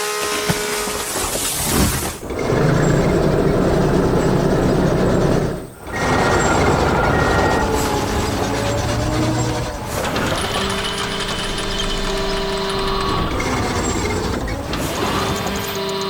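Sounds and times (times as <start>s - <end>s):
construction vehicle engine running: 0.0s - 16.0s.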